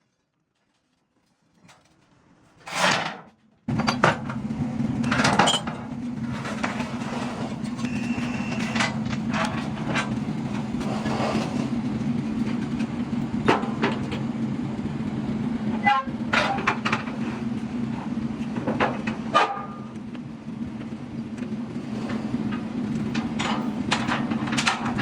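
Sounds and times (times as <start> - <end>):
steady motor hum: 3.7 - 25.0.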